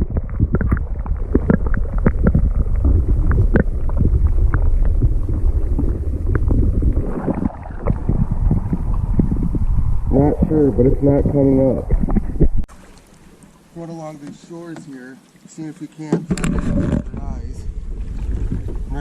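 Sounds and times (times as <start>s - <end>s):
muffled water sloshing: 0.0s - 19.0s.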